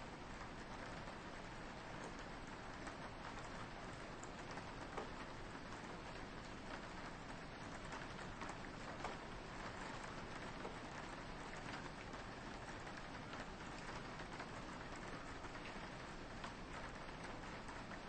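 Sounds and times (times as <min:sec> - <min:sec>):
rain tapping on a window: 0:00.0 - 0:18.0.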